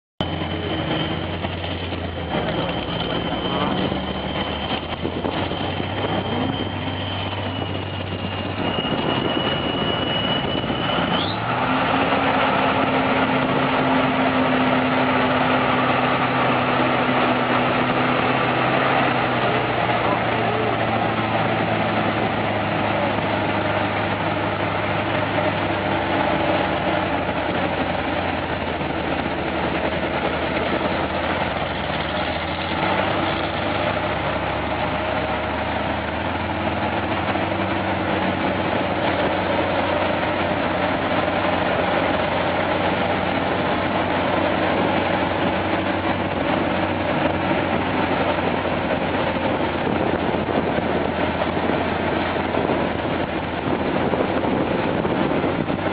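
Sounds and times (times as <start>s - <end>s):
tractor diesel engine running: 0.2s - 55.9s.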